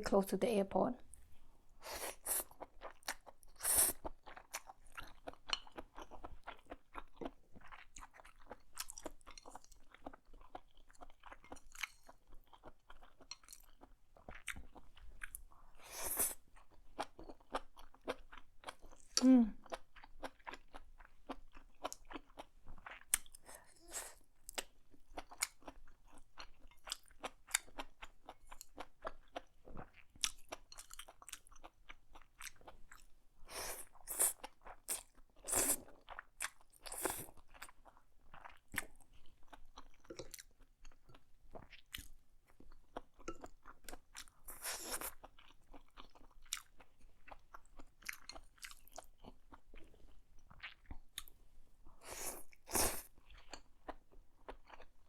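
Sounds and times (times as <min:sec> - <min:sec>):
chewing noodles: 0:01.8 - 0:55.0.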